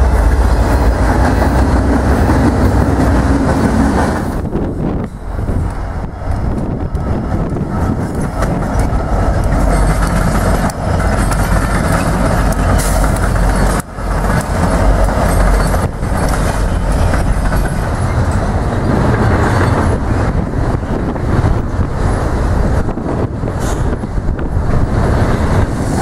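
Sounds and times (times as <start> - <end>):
locomotive engine rumble: 0.0 - 26.0
train wheel and rail noise: 0.0 - 26.0.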